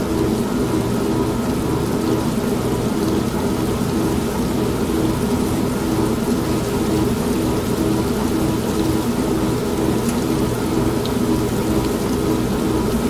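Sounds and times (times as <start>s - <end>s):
rain: 0.0s - 13.0s
washing machine humming: 0.0s - 13.0s.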